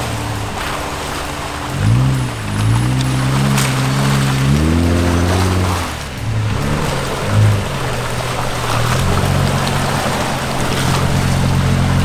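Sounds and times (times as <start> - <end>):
car engine running: 0.0 - 12.0
water splashing around tyres: 0.0 - 12.0.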